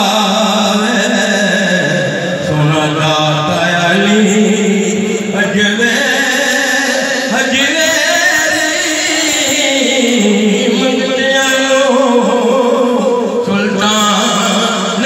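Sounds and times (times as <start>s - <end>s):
man singing chant through loudspeakers: 0.0s - 15.0s.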